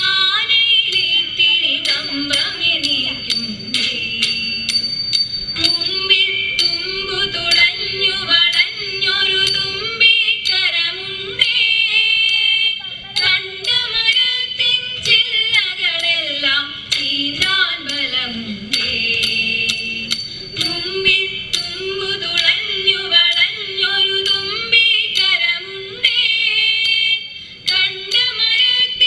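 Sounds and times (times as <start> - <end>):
women singing: 0.0 - 4.8, 5.6 - 29.0.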